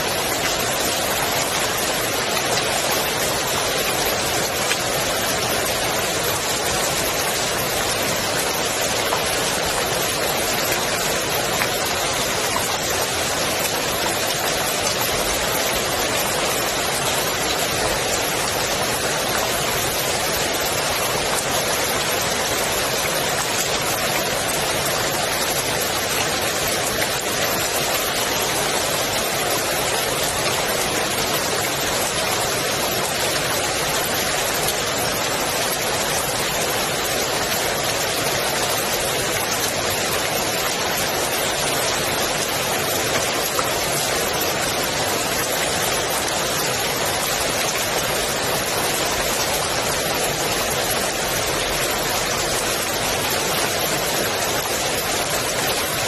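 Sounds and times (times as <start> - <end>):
rain falling on pool water: 0.0 - 56.0.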